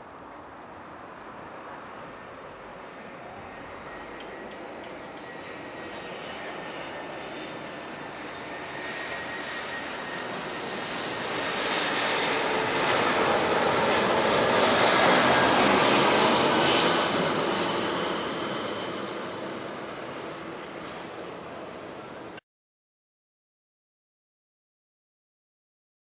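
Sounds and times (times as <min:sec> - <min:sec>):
high jet whine: 0:00.0 - 0:22.4
jet airliner rush: 0:00.8 - 0:22.4.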